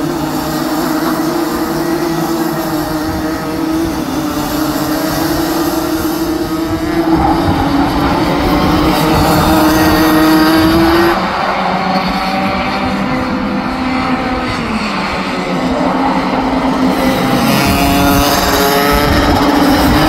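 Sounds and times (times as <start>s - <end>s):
kart engines racing at high revs: 0.0s - 20.0s.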